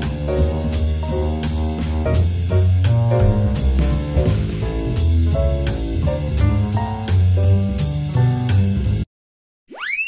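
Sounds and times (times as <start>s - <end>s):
background music with steady beat: 0.0s - 9.0s.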